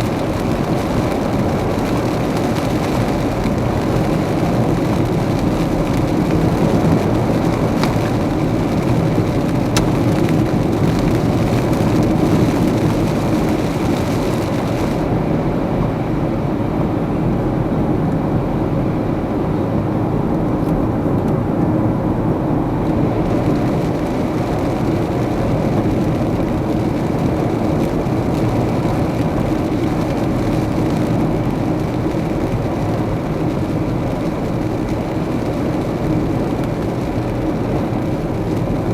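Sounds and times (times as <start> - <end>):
tyres hissing on wet road: 0.0 - 15.3, 22.7 - 38.9
car engine and road noise: 0.0 - 38.9.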